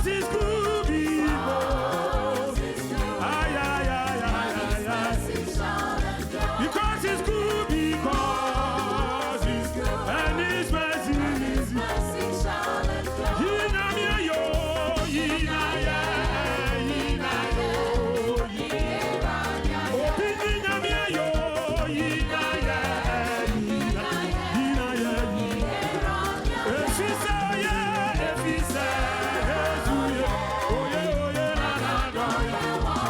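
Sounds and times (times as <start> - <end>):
fast drum beat: 0.0 - 33.0
lead singing: 0.0 - 33.0.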